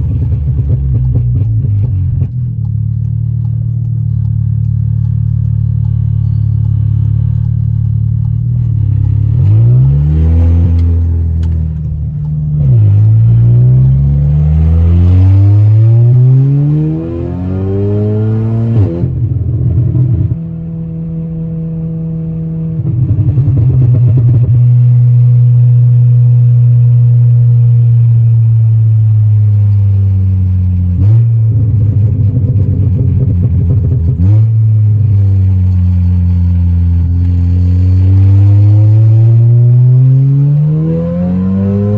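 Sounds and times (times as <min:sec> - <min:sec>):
car engine accelerating hard: 0:00.0 - 0:41.9.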